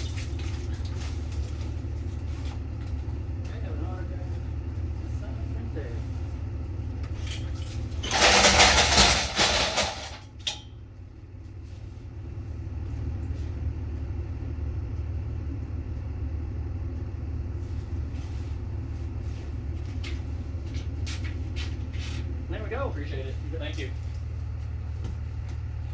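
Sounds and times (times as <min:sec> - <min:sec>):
truck engine idling: 0:00.0 - 0:25.9.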